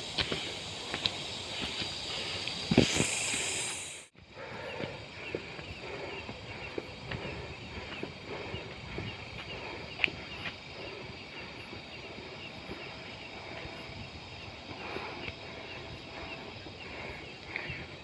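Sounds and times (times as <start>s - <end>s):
faint chirping: 0.0s - 18.0s
footsteps on forest trail: 0.0s - 18.0s.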